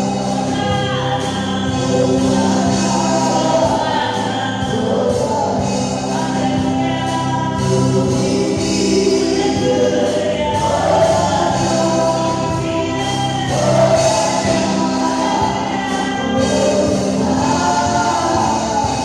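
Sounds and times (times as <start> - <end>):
choir singing gospel: 0.0 - 19.0
instrumental backing: 0.0 - 19.0.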